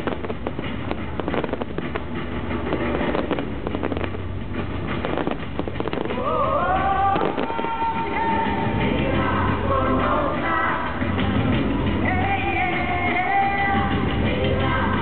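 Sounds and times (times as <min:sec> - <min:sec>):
fireworks bangs and crackles: 0:00.0 - 0:15.0
music: 0:00.0 - 0:15.0.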